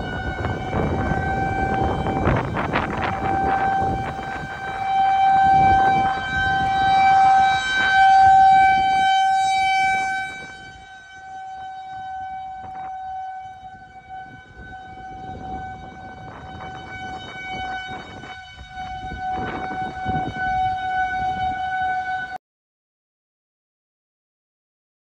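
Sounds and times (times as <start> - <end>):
tornado warning siren: 0.0 - 22.4
wind rumble on microphone: 0.0 - 22.4.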